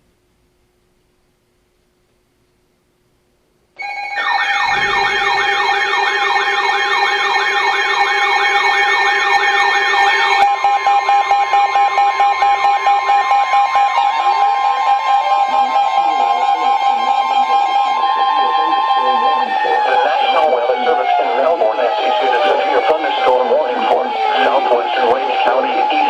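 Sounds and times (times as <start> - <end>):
electronic siren wail: 3.8 - 26.0
steady alarm tones: 3.8 - 26.0.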